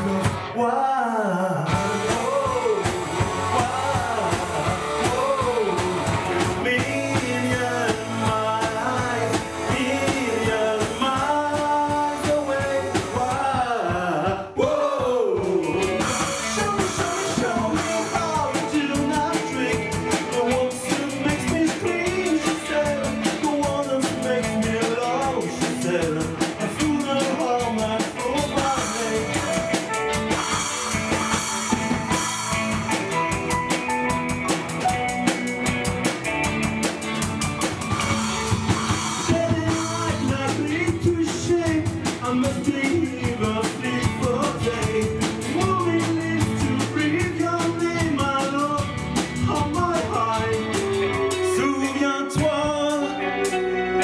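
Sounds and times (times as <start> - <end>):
drum kit: 0.0 - 0.6, 1.7 - 54.0
person singing: 0.0 - 34.1, 38.1 - 54.0
bass guitar: 0.0 - 54.0
electric guitar: 0.0 - 54.0.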